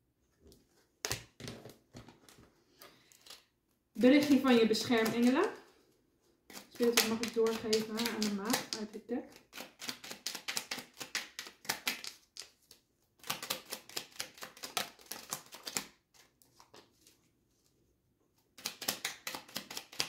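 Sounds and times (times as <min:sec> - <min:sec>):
cards being shuffled: 0:01.0 - 0:05.7, 0:06.5 - 0:17.2, 0:18.4 - 0:20.0.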